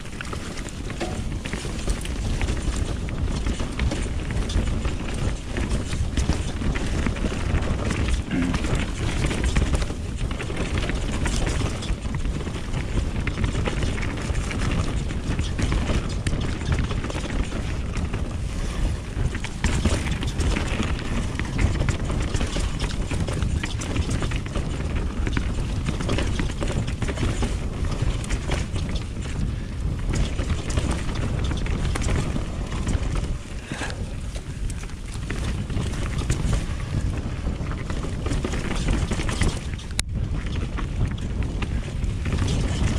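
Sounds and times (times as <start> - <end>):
bike rattling and knocking: 0.0 - 42.9
bike tyres rumbling on dirt: 0.0 - 42.9
wind on microphone: 0.0 - 42.9.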